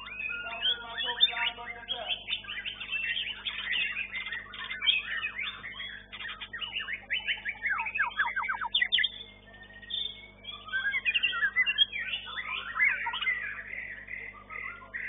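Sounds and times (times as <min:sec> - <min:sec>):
bird singing chirps and whistles: 0:00.0 - 0:15.0.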